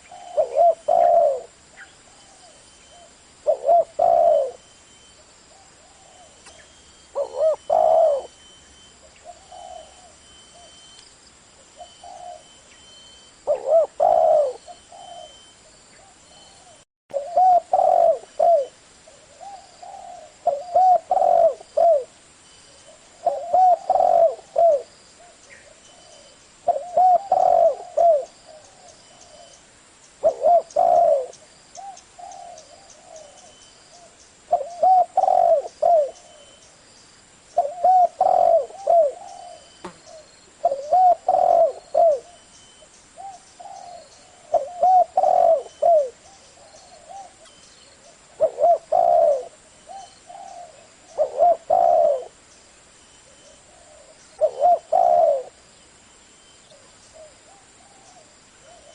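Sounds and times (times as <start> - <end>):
dove cooing: 0.0 - 4.7, 5.5 - 8.4, 9.0 - 10.9, 11.8 - 12.6, 13.4 - 22.2, 22.8 - 29.6, 30.2 - 36.6, 37.6 - 52.4, 53.2 - 55.6, 56.6 - 58.9.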